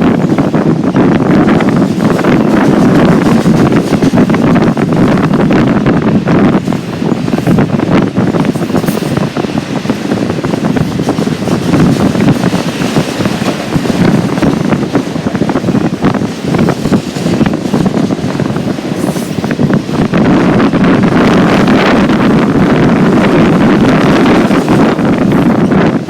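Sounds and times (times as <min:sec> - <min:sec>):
train wheels rumbling on rail: 0:00.0 - 0:26.0
wind buffeting microphone: 0:00.0 - 0:26.0.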